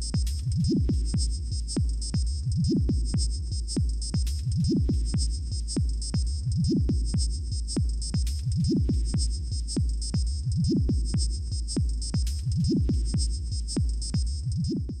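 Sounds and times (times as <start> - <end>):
electronic music with beat: 0.0 - 15.0.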